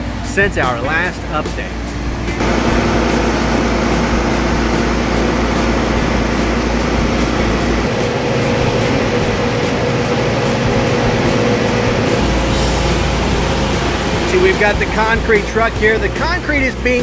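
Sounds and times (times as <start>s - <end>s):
concrete pump machine drone: 0.0s - 17.0s.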